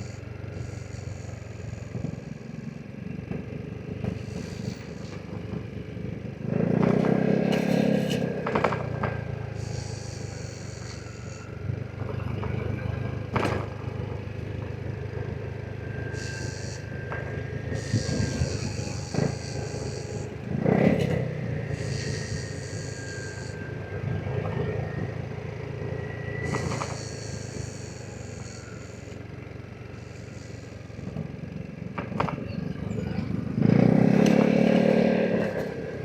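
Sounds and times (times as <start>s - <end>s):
scooter engine running: 0.0s - 36.0s.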